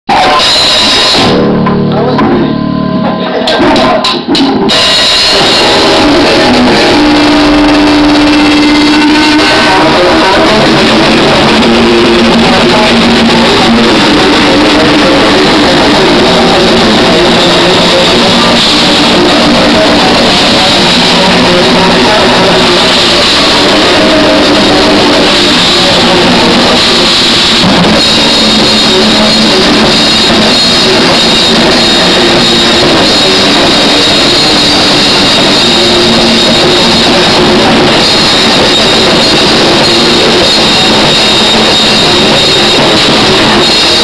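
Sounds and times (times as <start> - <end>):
distorted live metal band: 0.0 - 44.0.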